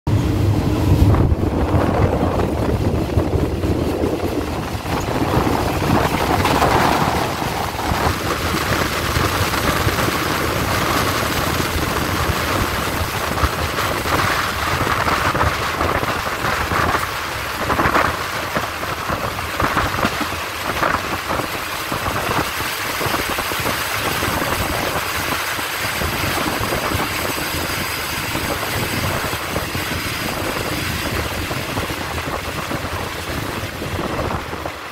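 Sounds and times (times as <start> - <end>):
train running noise: 0.1 - 34.9
wind buffeting microphone: 0.1 - 34.9.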